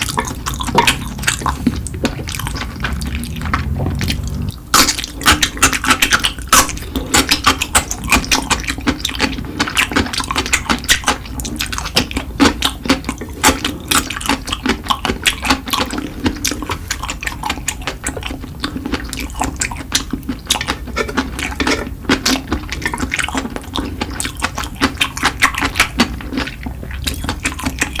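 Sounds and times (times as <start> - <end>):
wet chewing and mouth smacking: 0.0 - 4.5, 5.3 - 28.0.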